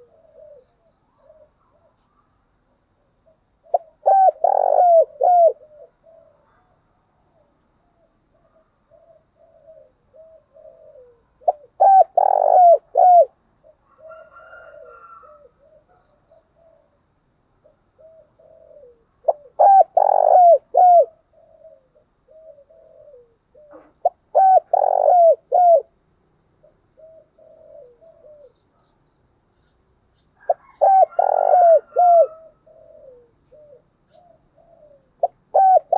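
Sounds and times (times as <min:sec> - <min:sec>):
dove cooing: 0:00.0 - 0:02.3, 0:03.0 - 0:29.0, 0:30.4 - 0:35.9.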